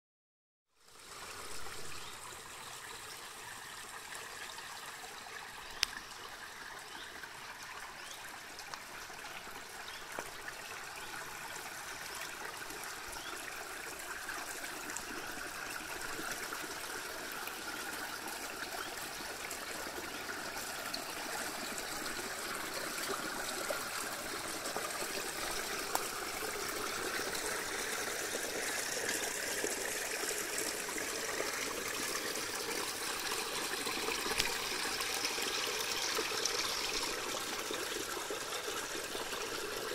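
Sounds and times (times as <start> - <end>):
stream trickling over stones: 0.8 - 39.9.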